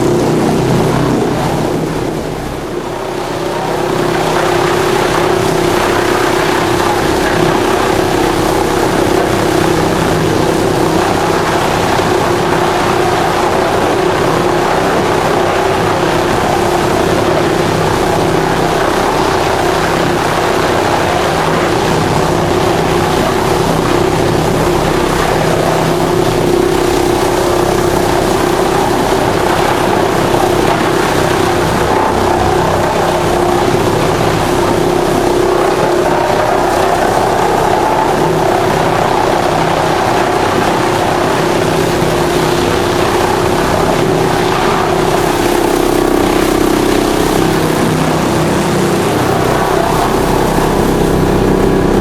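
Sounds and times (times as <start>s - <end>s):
wood chipper running: 2.6s - 52.0s.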